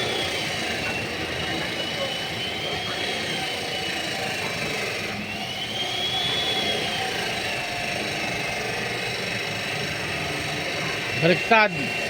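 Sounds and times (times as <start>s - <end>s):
machine hum: 0.0s - 12.0s
power tool whining: 0.0s - 12.0s.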